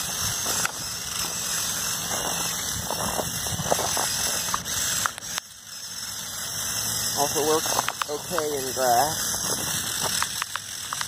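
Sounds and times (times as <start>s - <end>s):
toy motors whirring with rattling: 0.0s - 11.0s.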